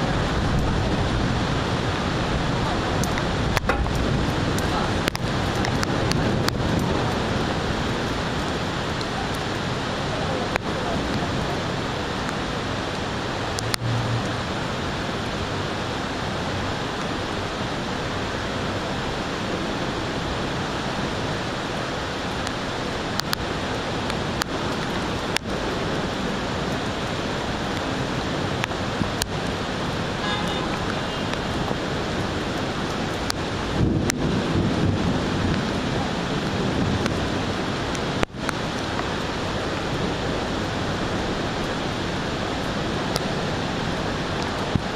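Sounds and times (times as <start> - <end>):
rain: 0.0 - 44.9
wind: 0.0 - 44.9.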